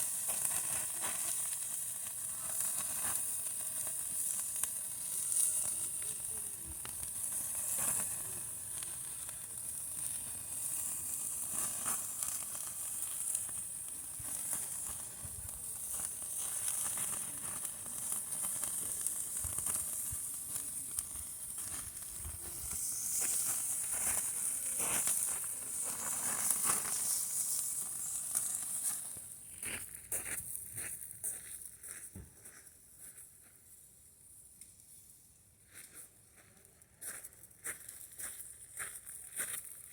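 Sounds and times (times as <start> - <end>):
patties sizzling over campfire: 0.0 - 33.3, 37.0 - 39.9.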